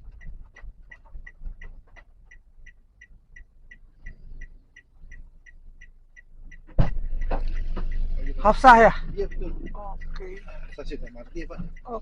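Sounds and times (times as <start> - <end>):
low car cabin rumble: 0.0 - 12.0
turn signal ticking: 0.0 - 12.0.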